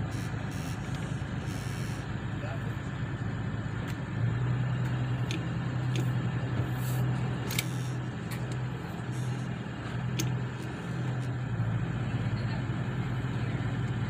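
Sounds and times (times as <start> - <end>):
motorboat engine drone: 0.0 - 14.0.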